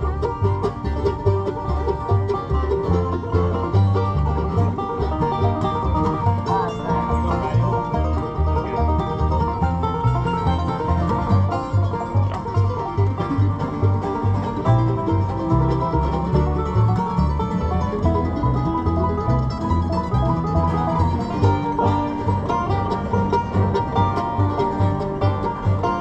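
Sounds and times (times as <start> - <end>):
acoustic guitar: 0.0 - 26.0
banjo picking: 0.0 - 26.0
low bass notes: 0.0 - 26.0.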